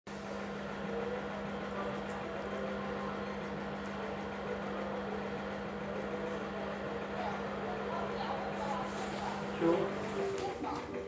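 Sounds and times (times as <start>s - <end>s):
washing machine humming: 0.1s - 11.0s.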